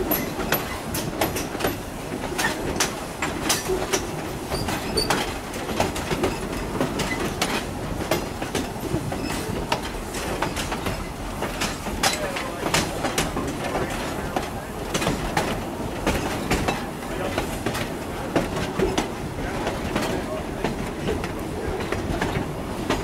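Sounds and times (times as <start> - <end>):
train car rumbling on track: 0.0 - 23.0
wheels clicking over rails: 0.0 - 23.0.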